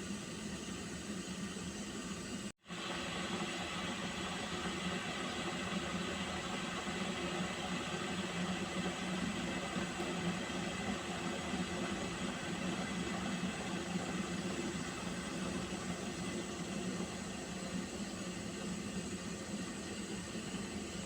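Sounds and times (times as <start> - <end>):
water boiling: 0.0 - 21.0.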